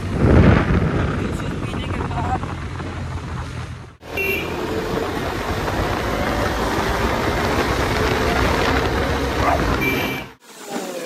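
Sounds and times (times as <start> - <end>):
motorcycle engine rumble: 0.0 - 11.0
wind and road noise: 0.0 - 11.0.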